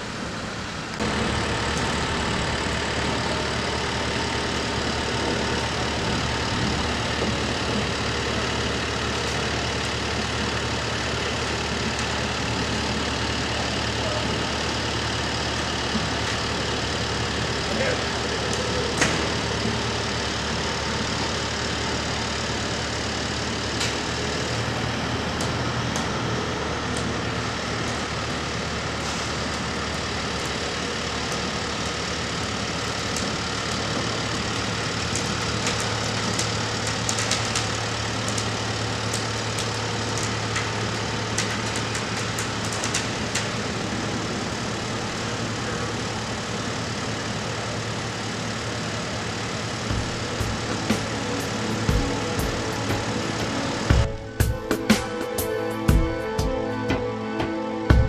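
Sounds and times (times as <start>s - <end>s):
heavy equipment engine idling: 0.0s - 58.0s.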